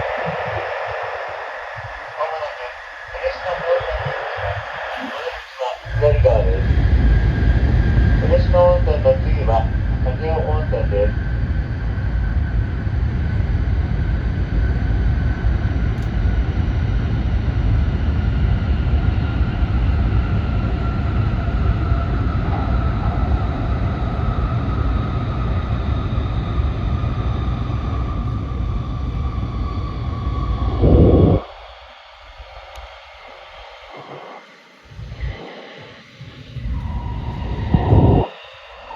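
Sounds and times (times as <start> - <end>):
faint falling whine: 0.0 - 38.9
train rumble from inside: 0.0 - 38.9.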